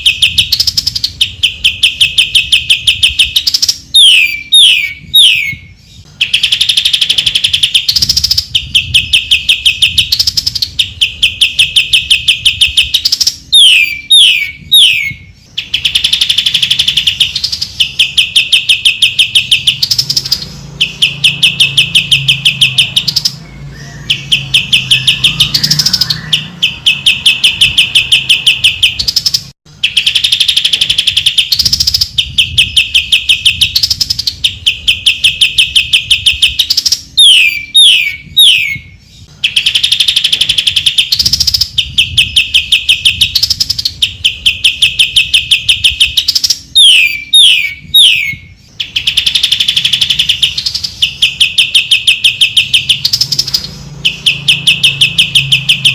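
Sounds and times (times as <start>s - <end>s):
bird singing fast trills: 0.0s - 55.9s
sharp downslurred whistles: 0.0s - 55.9s.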